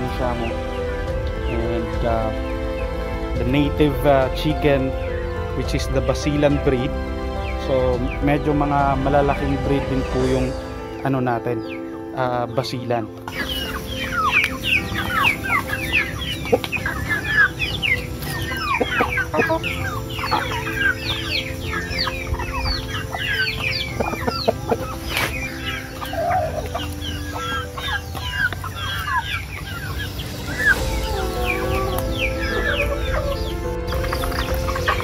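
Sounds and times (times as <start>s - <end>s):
background music: 0.0s - 35.0s
chickens chirping and clucking: 0.0s - 35.0s.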